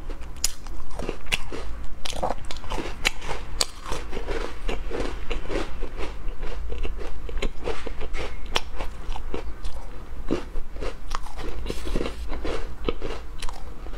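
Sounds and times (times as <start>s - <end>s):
person crunching biscuits: 0.0s - 13.9s.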